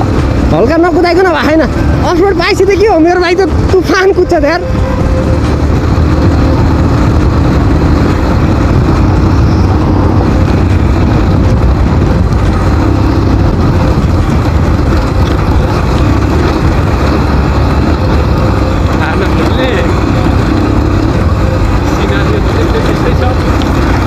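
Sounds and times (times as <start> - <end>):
motorcycle running at speed: 0.0 - 24.0.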